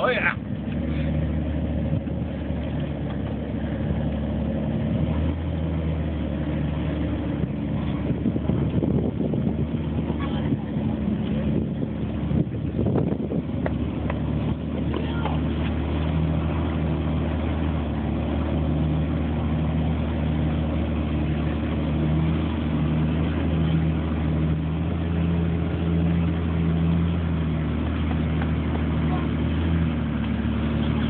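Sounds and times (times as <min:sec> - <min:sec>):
engine running at low revs: 0:00.0 - 0:31.0.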